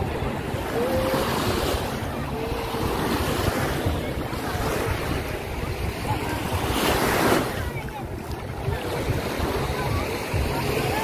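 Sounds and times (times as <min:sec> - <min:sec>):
small waves on a sandy beach: 0:00.0 - 0:11.0
wind rumbling on the microphone: 0:00.0 - 0:11.0.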